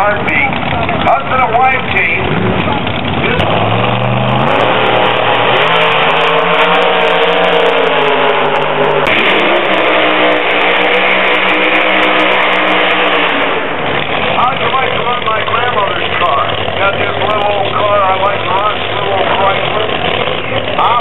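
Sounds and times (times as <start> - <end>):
drag racing cars at full throttle: 0.0 - 21.0.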